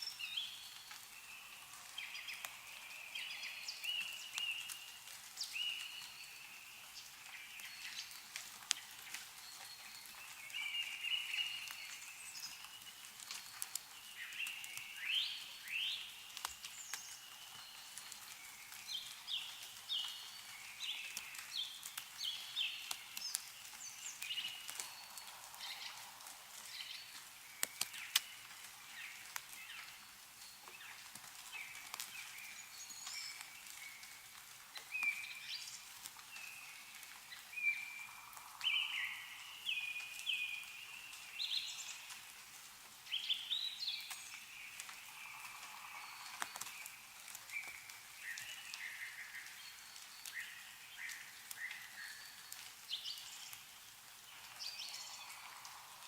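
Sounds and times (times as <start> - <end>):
songbirds chirping: 0.0 - 56.0
water drips falling: 0.0 - 56.0.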